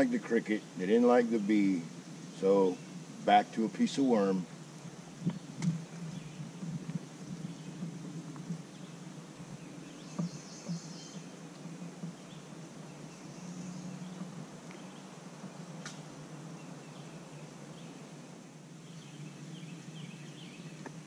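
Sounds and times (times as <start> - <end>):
birds chirping faintly: 0.0 - 21.0
low steady hum: 0.0 - 21.0.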